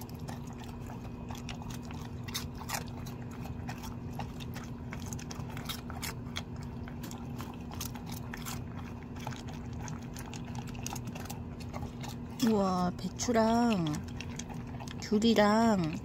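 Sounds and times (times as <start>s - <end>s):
dog crunching dry kibble: 0.0s - 16.0s
steady low hum: 0.0s - 16.0s.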